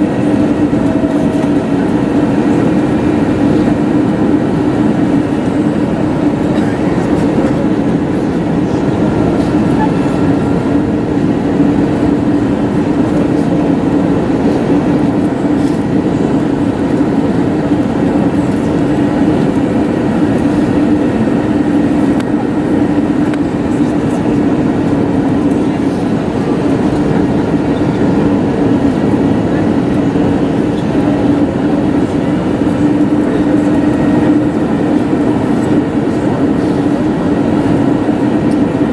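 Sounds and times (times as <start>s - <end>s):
aircraft engine hum: 0.0s - 38.9s
cabin rumble: 0.0s - 38.9s.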